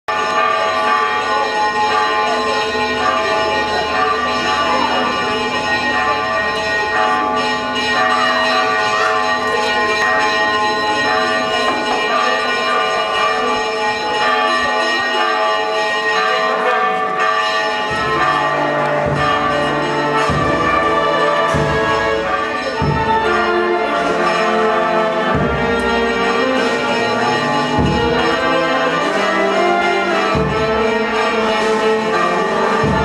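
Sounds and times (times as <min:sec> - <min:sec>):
church bells pealing: 0:00.1 - 0:33.0.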